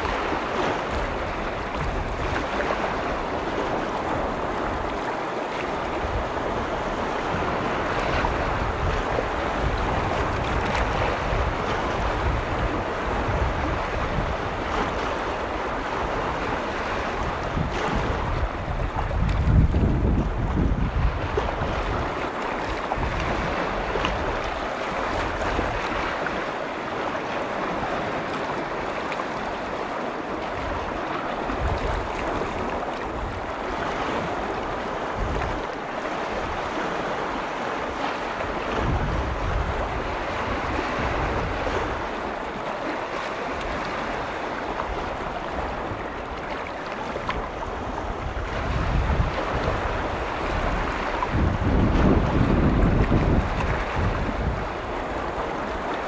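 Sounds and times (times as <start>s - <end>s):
lake waves washing: 0.0s - 56.0s
wind rumble on microphone: 0.0s - 56.0s.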